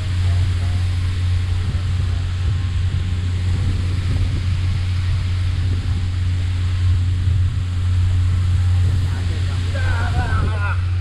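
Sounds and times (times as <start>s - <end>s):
boat engine drone: 0.0s - 11.0s
water sprayers hissing: 0.0s - 11.0s.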